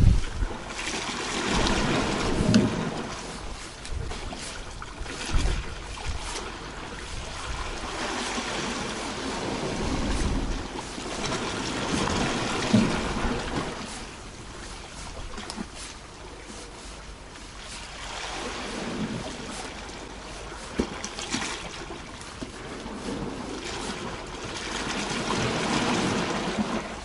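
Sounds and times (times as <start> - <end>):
sea water washing against rocks: 0.0 - 27.0.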